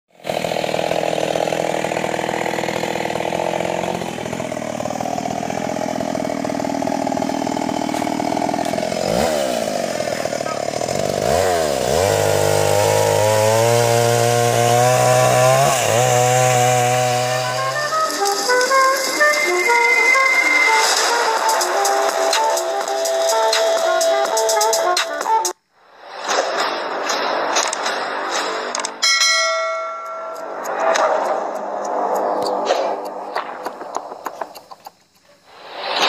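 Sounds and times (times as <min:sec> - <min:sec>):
chainsaw cutting wood: 0:00.1 - 0:25.6, 0:29.9 - 0:35.3.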